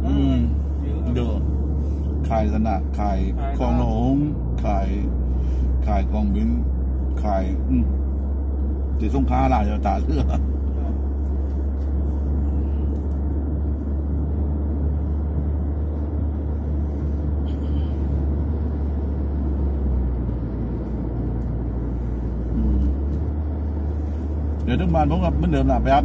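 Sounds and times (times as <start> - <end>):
car engine at highway speed: 0.0 - 26.0
tyre road noise: 0.0 - 26.0.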